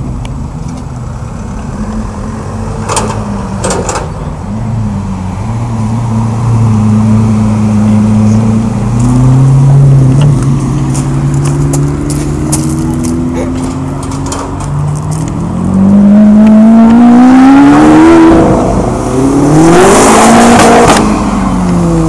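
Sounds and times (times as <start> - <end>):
car engine passing at low revs: 4.2 - 22.0.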